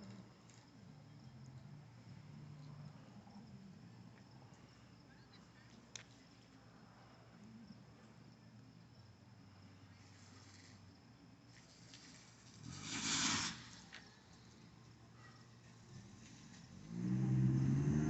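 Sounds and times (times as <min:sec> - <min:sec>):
faint background hum: 0:00.0 - 0:12.7, 0:13.3 - 0:17.6.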